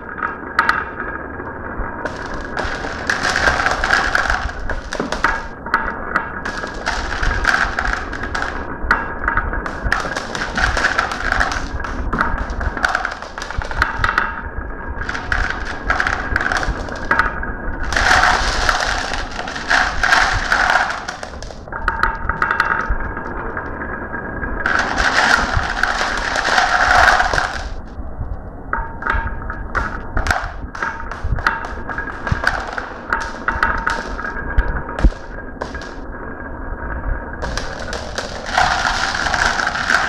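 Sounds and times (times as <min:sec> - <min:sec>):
dense clatter of marbles: 0:00.0 - 0:28.0, 0:28.7 - 0:36.4, 0:37.2 - 0:40.0
marbles rolling and clicking: 0:00.0 - 0:36.4, 0:37.0 - 0:40.0.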